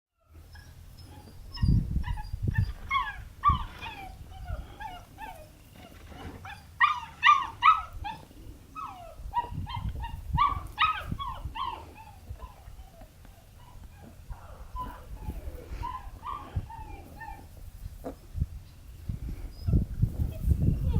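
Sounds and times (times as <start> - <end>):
puppy yipping and whining: 0.2 - 18.2, 19.5 - 20.9.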